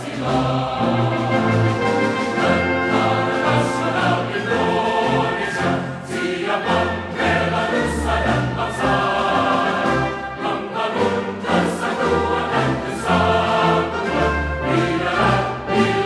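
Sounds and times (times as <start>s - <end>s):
choral singing: 0.0s - 16.0s.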